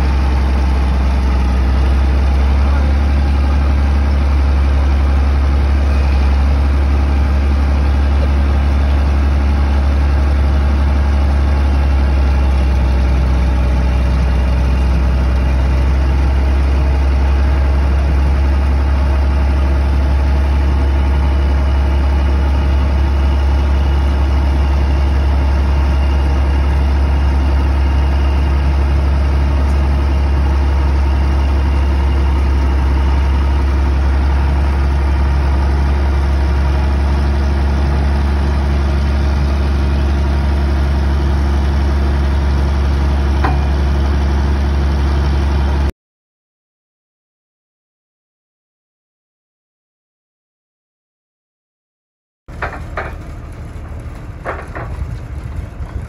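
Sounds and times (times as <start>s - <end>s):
diesel engine running steadily: 0.0s - 45.9s, 52.5s - 56.0s.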